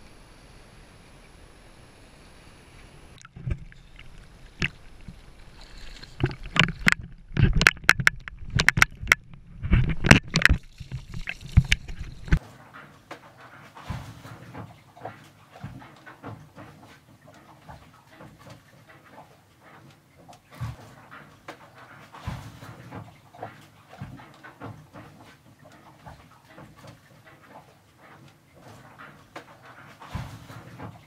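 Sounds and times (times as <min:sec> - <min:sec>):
water splashing and sloshing: 0:02.7 - 0:31.0.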